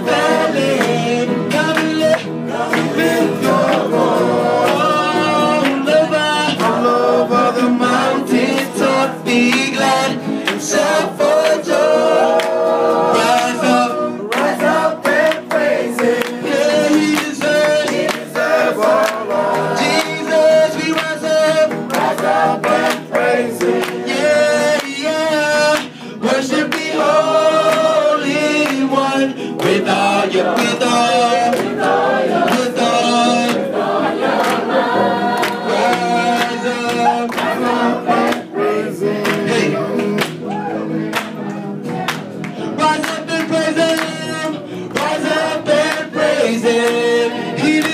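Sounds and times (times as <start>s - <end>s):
group singing gospel song: 0.0s - 47.9s
sharp percussive claps: 0.1s - 6.9s, 8.0s - 47.9s.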